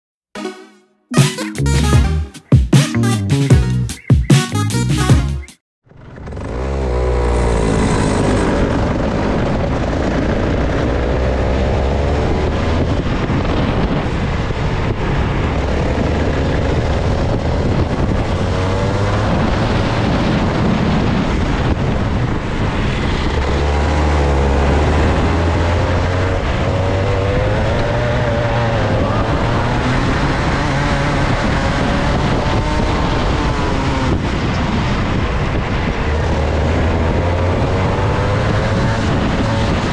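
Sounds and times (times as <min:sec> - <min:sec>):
kart engine running hard: 0:05.9 - 0:39.9.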